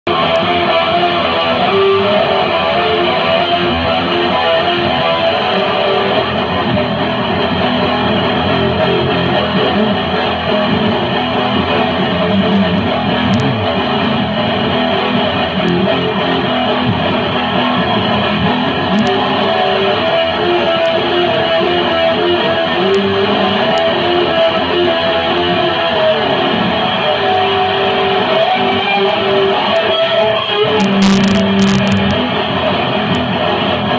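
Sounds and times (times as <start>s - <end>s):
guitar strumming chords: 0.1s - 33.9s.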